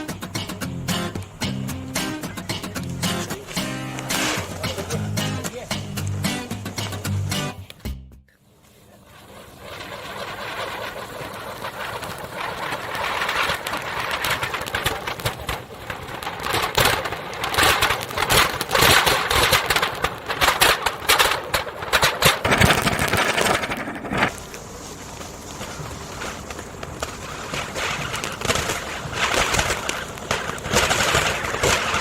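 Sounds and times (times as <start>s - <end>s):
firework fountain hissing: 0.0s - 7.6s, 8.4s - 32.0s
firework crackling: 0.0s - 32.0s.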